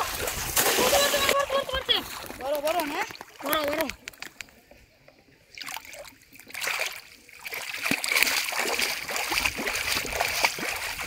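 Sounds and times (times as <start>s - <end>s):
water splashing in fish trap: 0.0s - 3.8s, 5.5s - 11.0s.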